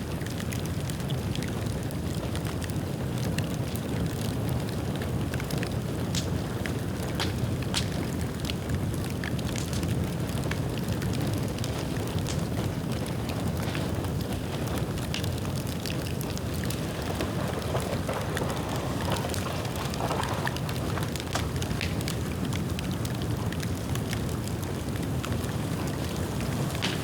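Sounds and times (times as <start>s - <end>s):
fire crackles and pops: 0.0s - 27.0s
low rumble of flames: 0.0s - 27.0s.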